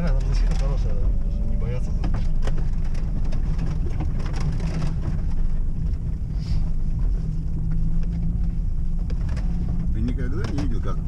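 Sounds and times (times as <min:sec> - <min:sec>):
engine and tyres rumbling: 0:00.0 - 0:11.0
knocks and rattles: 0:00.0 - 0:11.0.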